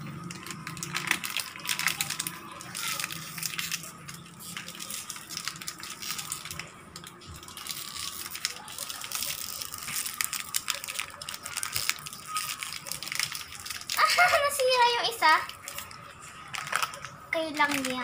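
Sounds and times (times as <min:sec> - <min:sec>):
plastic wrapper crinkling and tearing: 0:00.0 - 0:18.0.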